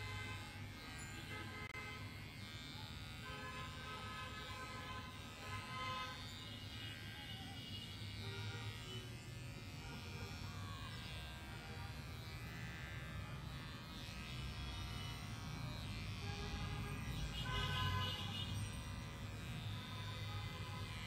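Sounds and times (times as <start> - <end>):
electric pet clippers buzzing: 0.0 - 21.0.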